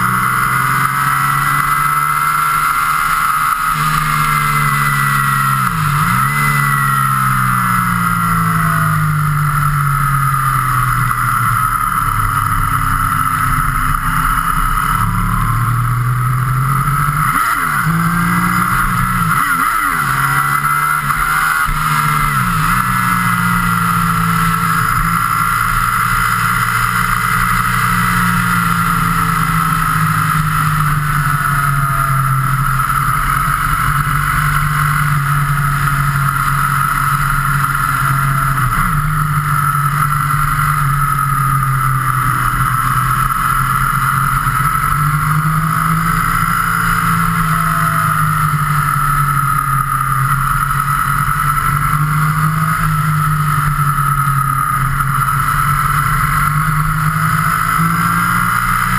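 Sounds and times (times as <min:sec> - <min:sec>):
vehicle engine running at speed: 0:00.0 - 0:58.9.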